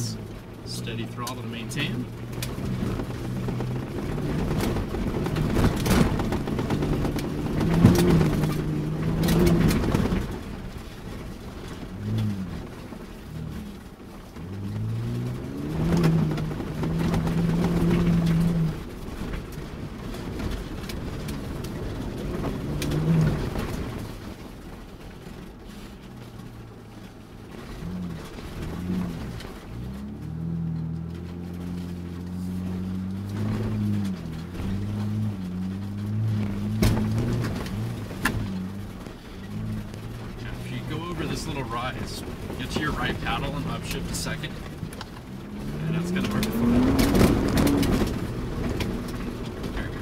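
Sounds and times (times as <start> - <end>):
engine revving from inside cab: 0.0 - 50.0
truck knocking over bumps: 0.0 - 50.0
tyres rumbling over gravel: 0.0 - 50.0.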